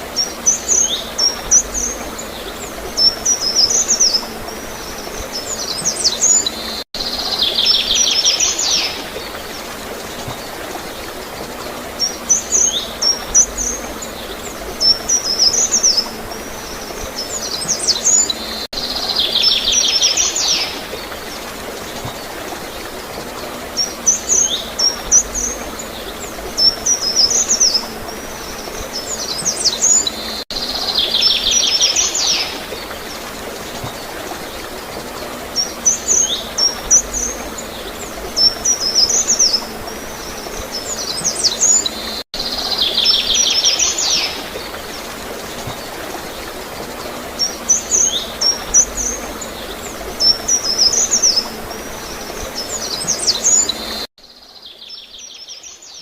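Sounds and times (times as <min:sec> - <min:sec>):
flowing gurgling water: 0:00.0 - 0:54.1
songbirds chirping and twittering: 0:00.0 - 0:56.0.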